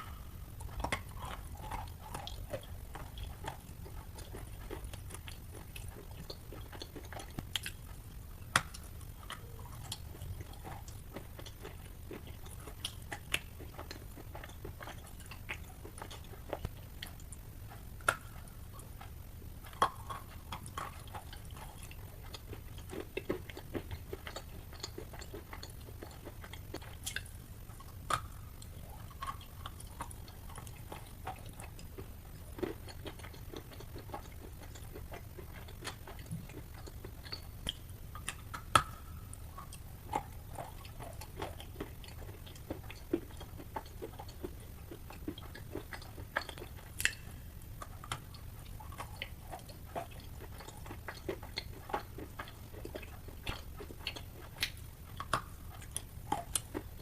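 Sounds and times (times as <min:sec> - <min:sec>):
chalk being chewed: 0:00.0 - 0:57.0.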